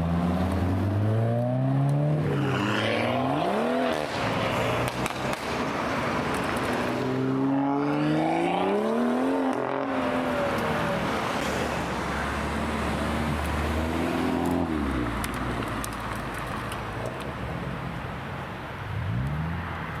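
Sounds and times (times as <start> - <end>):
cars with loud exhausts revving: 0.0 - 20.0
road noise: 0.0 - 20.0.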